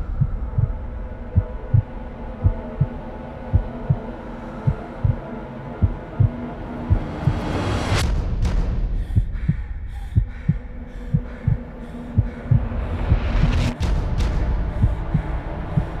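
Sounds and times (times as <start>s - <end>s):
low drone: 0.0s - 16.0s
low heartbeat pulse: 0.0s - 16.0s.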